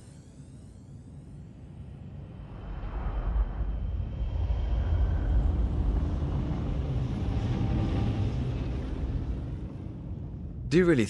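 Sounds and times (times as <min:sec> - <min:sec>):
faint hum: 0:00.0 - 0:11.0
deep spaceship engine rumble: 0:02.0 - 0:11.0.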